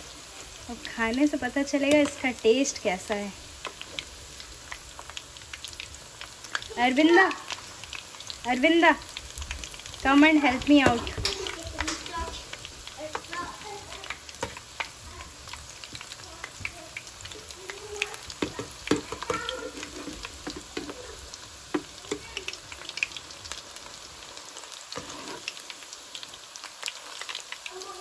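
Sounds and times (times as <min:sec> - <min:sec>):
pakoras sizzling in oil: 0:00.0 - 0:28.0.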